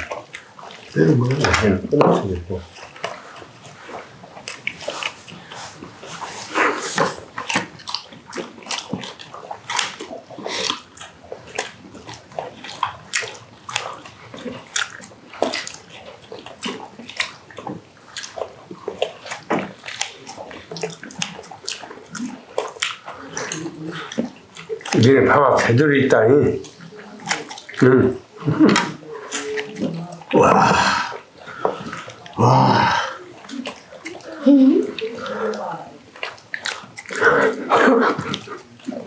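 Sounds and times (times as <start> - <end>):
people chewing wetly: 0.0 - 39.0.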